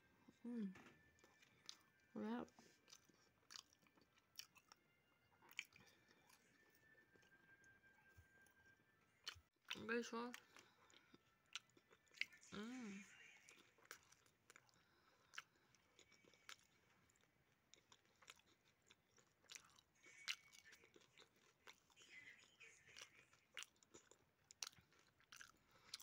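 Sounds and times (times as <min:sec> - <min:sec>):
chewing crunchy fries: 0:00.3 - 0:07.4, 0:09.2 - 0:26.0.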